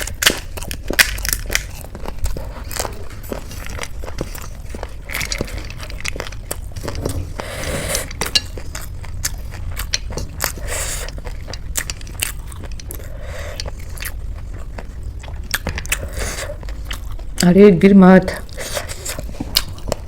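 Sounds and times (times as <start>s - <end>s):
crunchy chewing of snacks: 0.0s - 17.5s, 18.3s - 20.0s.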